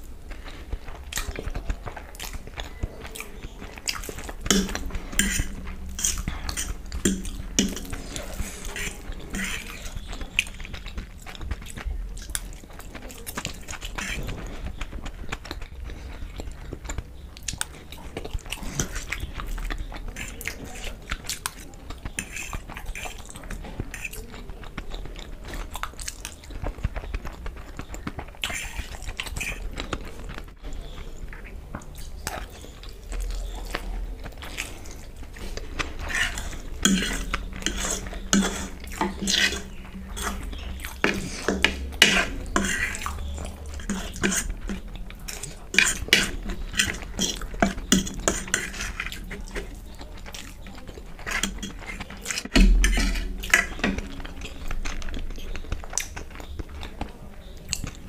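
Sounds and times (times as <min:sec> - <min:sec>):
chewing noodles: 0:00.0 - 0:58.0.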